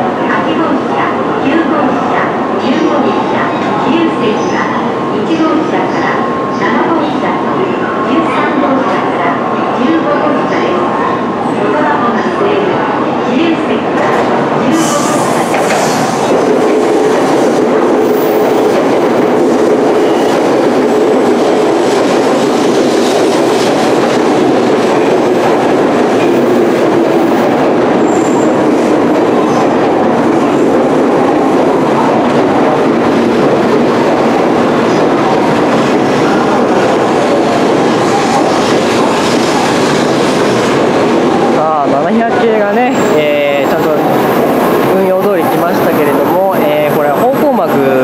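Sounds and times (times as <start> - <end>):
train rolling past: 0.0 - 48.0.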